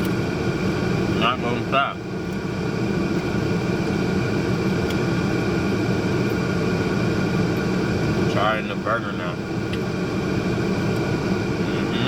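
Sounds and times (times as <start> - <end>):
mechanical hum and drone: 0.0 - 12.0.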